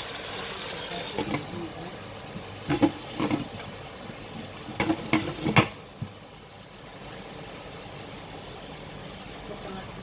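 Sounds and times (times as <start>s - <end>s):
low hiss of cooking: 0.0s - 10.0s.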